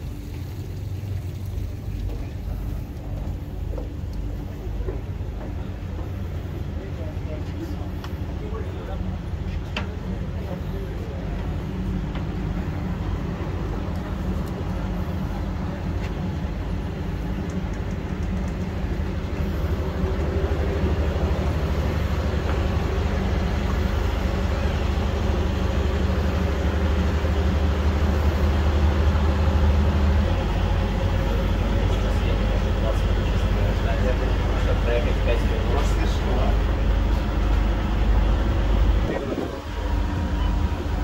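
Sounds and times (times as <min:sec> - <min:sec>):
train interior rumble and hum: 0:00.0 - 0:41.0.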